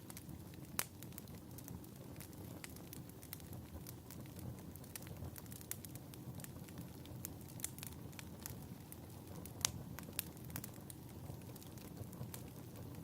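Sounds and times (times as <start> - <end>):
fire pops and snaps: 0.0 - 13.0
fireplace crackling: 0.0 - 13.0.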